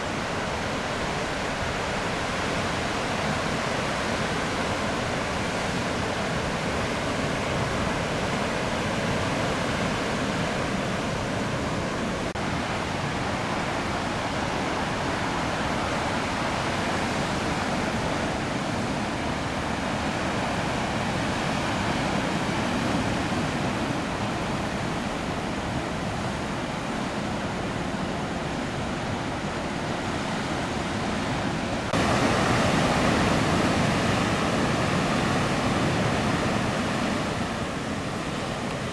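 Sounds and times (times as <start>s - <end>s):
heavy surf roaring: 0.0s - 38.9s.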